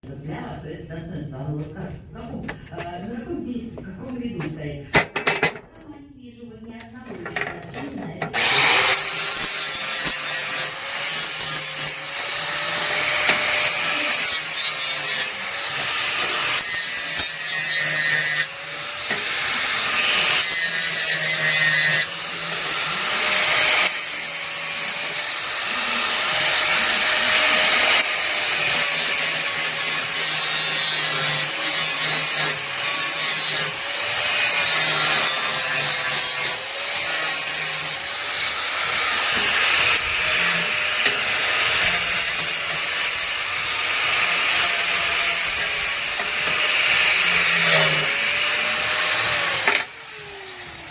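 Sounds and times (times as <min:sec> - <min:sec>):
power tool grinding steel: 0:08.2 - 0:50.9.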